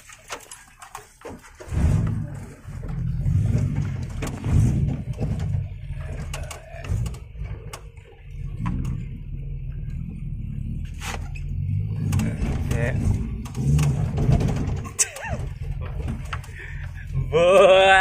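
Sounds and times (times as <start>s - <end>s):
engine low throb: 1.7s - 18.0s.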